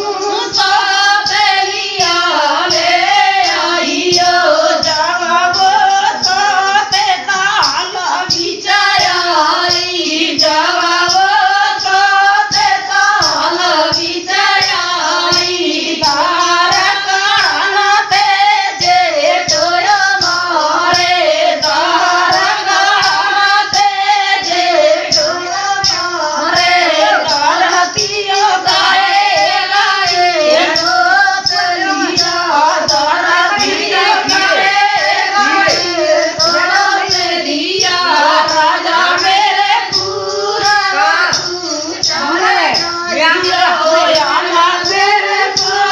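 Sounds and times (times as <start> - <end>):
steady percussion beat: 0.0 - 45.9
women singing folk song: 0.0 - 45.9.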